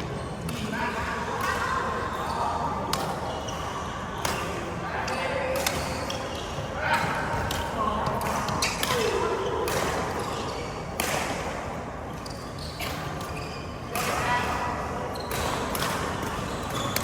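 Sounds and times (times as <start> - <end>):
rackets hitting shuttlecock: 1.4 - 17.0.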